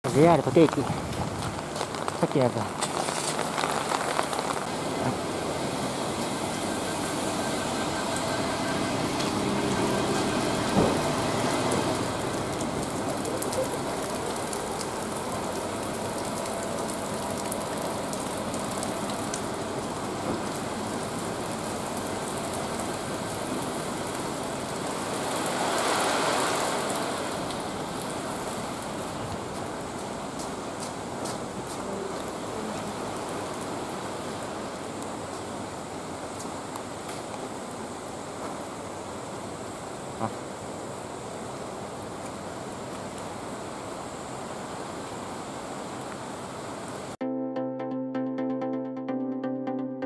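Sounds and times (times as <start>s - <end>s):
steady rain: 0.0s - 47.2s
traffic on wet road: 0.0s - 47.2s.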